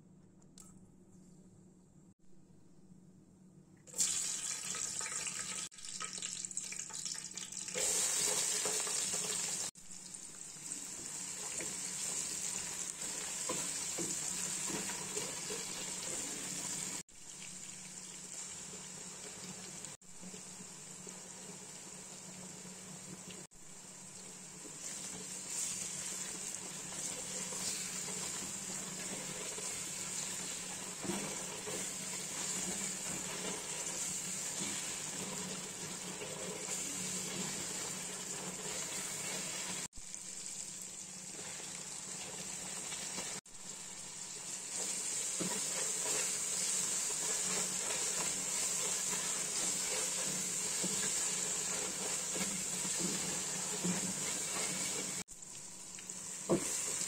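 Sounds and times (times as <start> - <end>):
onions sizzling in hot oil: 4.0 - 57.0.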